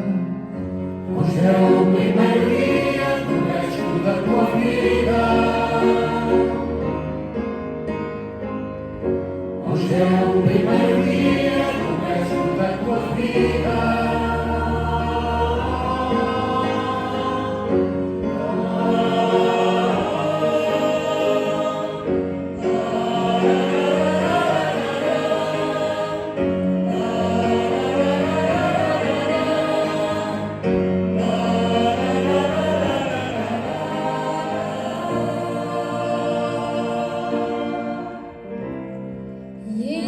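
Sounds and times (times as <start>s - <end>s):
choir singing sustained chords: 0.0s - 40.0s.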